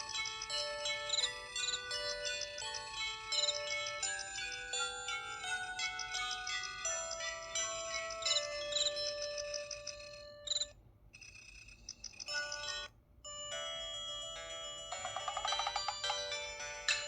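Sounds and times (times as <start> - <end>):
phone ringtone melody: 0.0 - 10.7, 11.3 - 17.0.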